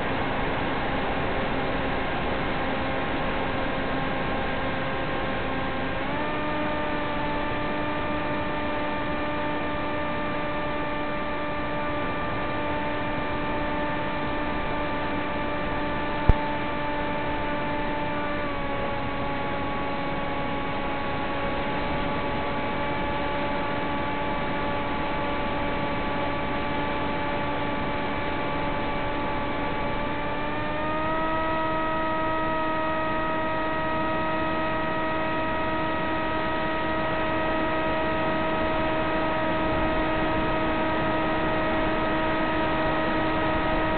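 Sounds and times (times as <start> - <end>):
electric motor hum: 0.0 - 43.9.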